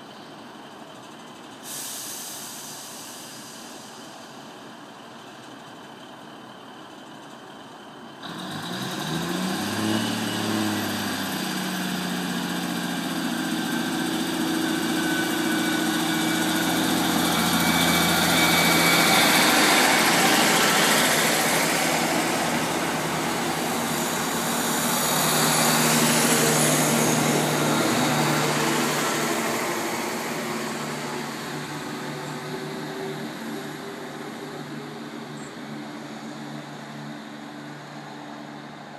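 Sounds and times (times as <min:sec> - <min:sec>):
train engine drone: 0:00.0 - 0:38.9.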